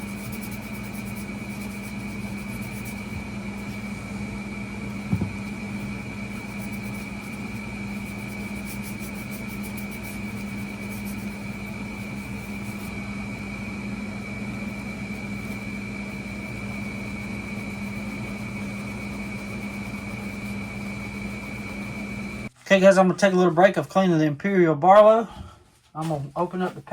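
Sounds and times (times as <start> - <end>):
high whine: 0.0 - 23.0
air conditioner humming: 0.0 - 26.9.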